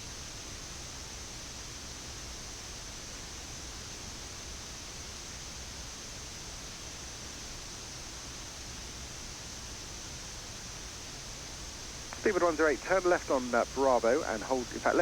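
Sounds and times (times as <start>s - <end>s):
air conditioning hiss: 0.0s - 15.0s.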